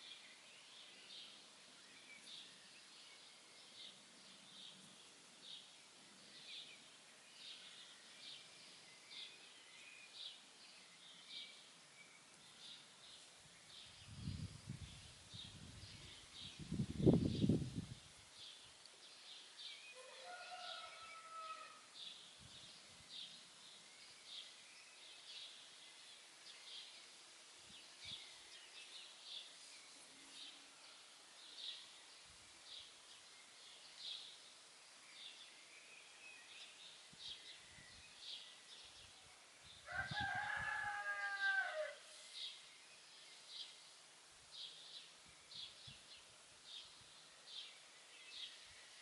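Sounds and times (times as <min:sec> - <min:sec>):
background hiss: 0:00.0 - 0:49.0
songbird chirping: 0:00.0 - 0:49.0.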